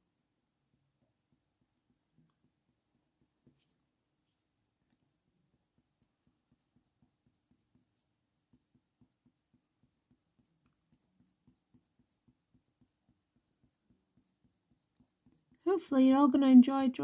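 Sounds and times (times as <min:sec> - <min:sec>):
pencil scratching on paper: 0:01.0 - 0:15.7.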